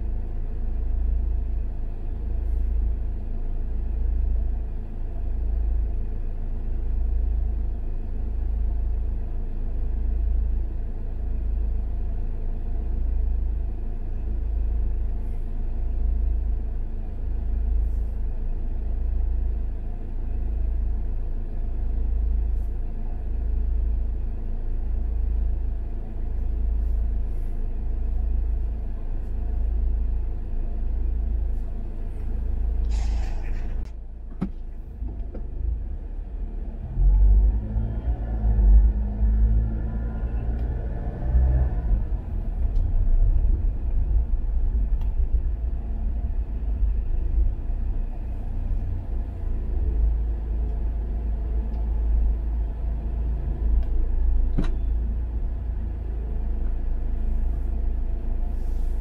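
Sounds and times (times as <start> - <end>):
idling vehicle engines rumbling: 0.0 - 59.0.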